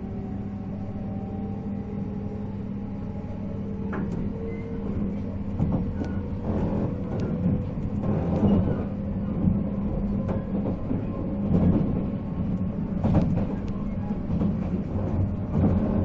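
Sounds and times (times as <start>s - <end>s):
electric train hum: 0.0s - 16.0s.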